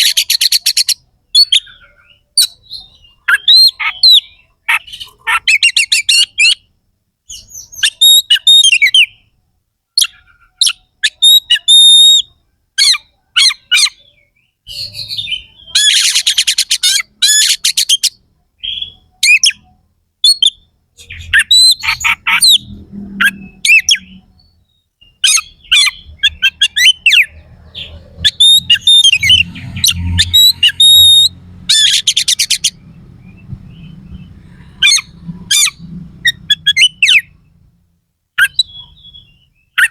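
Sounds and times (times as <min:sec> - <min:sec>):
bird singing whistles and trills: 0:00.0 - 0:06.7, 0:07.3 - 0:09.3, 0:10.0 - 0:37.5, 0:38.4 - 0:39.9.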